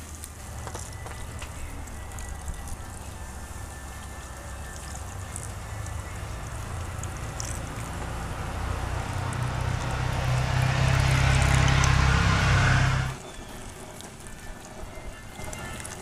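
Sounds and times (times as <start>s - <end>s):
low steady rumble: 0.0s - 13.3s
liquid hissing and sizzling in pot: 0.0s - 16.0s
liquid pouring stream: 0.0s - 16.0s.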